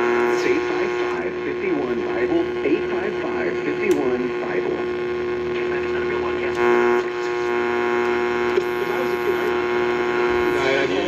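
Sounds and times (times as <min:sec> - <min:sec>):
harsh radio buzz: 0:00.0 - 0:11.0
radio speaker buzzing hum: 0:00.0 - 0:11.0.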